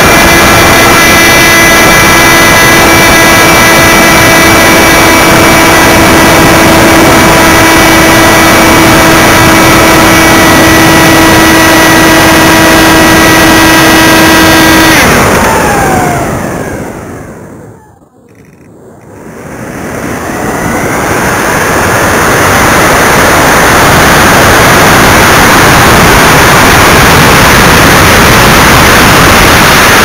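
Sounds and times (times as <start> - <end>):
electric motor whine: 0.0 - 30.0.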